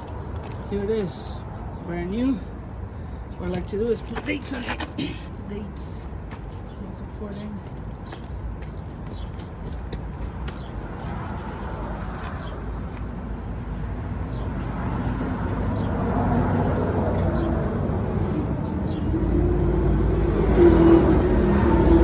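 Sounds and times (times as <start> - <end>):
motor vehicle rumble: 2.4 - 22.0.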